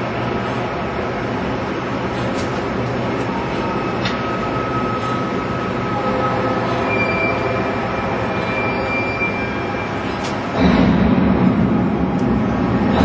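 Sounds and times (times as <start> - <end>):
heavy low machine hum: 0.0 - 13.0.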